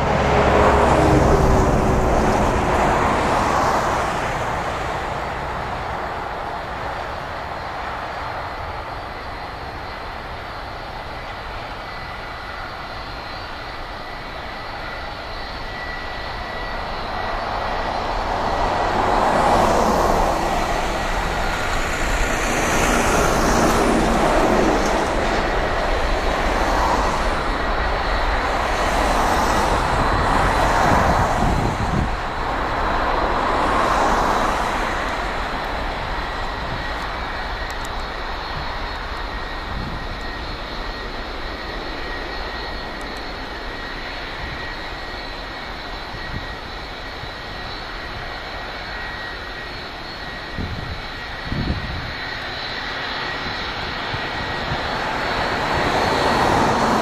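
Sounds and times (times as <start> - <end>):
jet engines roaring with high whine: 0.0 - 57.0.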